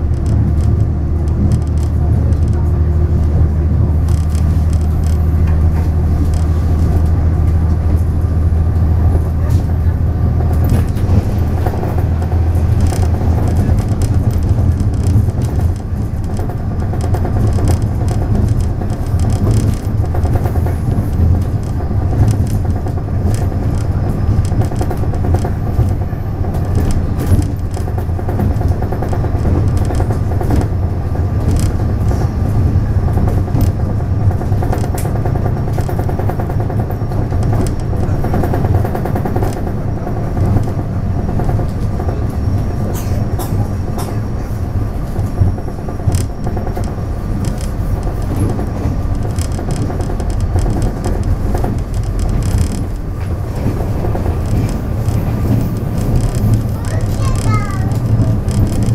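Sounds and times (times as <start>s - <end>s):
diesel engine drone: 0.0s - 58.9s
wheel-on-rail noise: 0.0s - 58.9s
track clicks: 4.0s - 58.9s.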